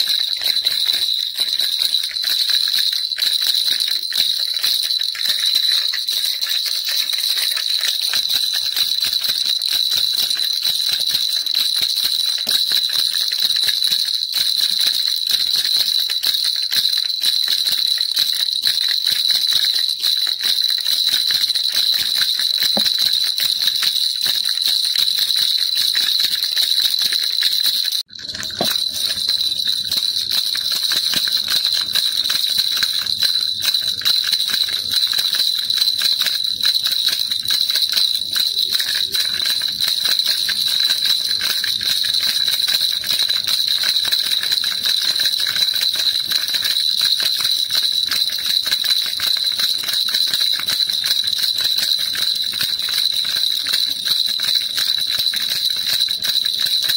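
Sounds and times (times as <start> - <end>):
baby rattle jingling: 0.0 - 56.9.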